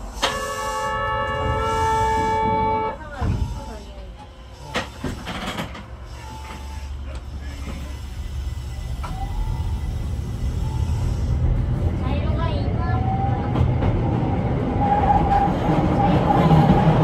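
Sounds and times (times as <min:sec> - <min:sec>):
train motors and wheels rumbling: 0:00.0 - 0:17.0.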